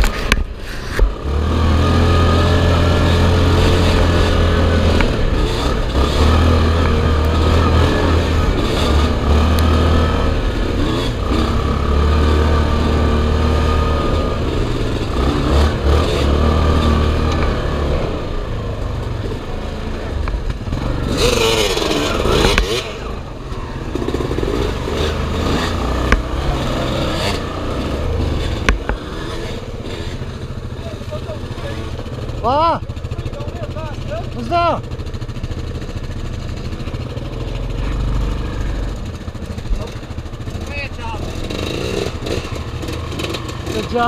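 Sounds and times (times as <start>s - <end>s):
atv engine under throttle: 0.0s - 44.0s.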